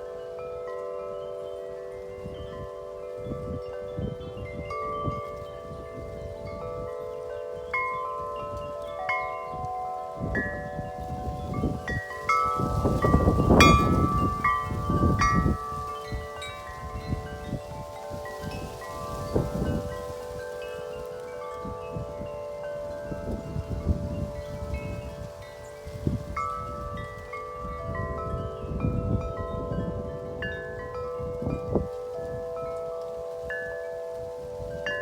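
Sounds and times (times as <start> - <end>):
wind chimes ringing: 0.0 - 35.0
wind buffeting microphone: 1.8 - 35.0.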